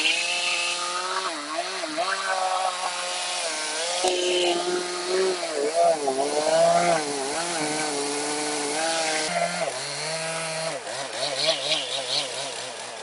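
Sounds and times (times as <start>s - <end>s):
chainsaw cutting log: 0.0s - 13.0s.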